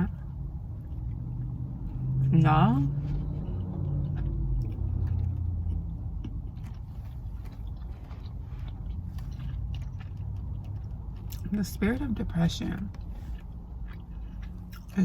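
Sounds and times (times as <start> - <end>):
vehicle rumble inside car: 0.0 - 15.0.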